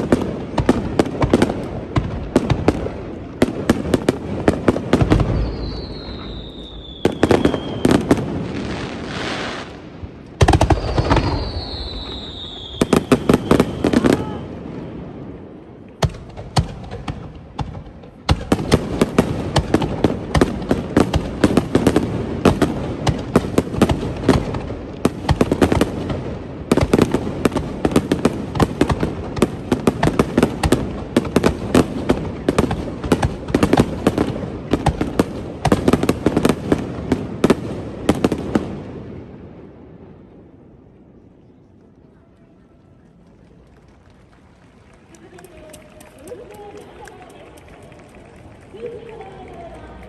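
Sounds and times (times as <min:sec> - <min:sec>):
fireworks bangs and crackle: 0:00.0 - 0:50.0.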